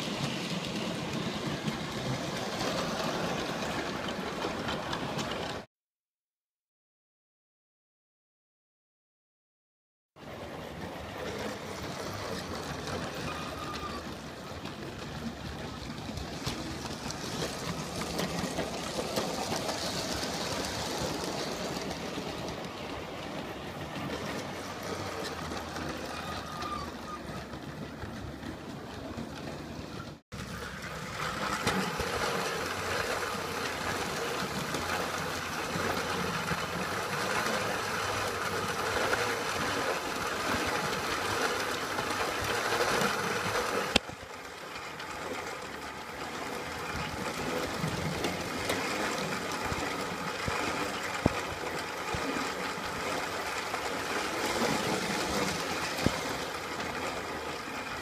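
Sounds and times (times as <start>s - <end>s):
model train whir and rattle: 0.0s - 5.7s, 10.2s - 58.0s.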